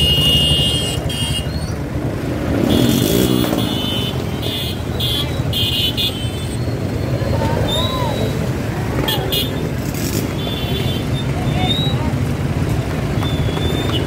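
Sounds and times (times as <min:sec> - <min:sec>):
tractor and motorcycle engines rumbling: 0:00.0 - 0:14.0.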